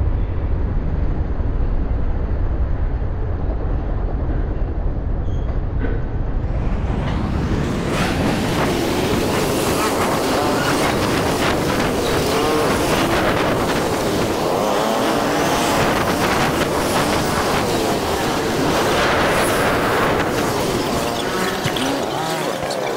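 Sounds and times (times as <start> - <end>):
vehicle engine and road noise: 0.0 - 22.9.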